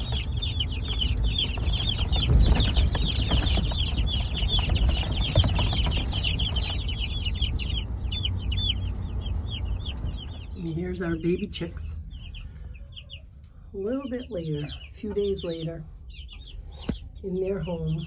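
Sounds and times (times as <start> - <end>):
chicks peeping: 0.0 - 18.0
steady low rumble: 0.0 - 18.0.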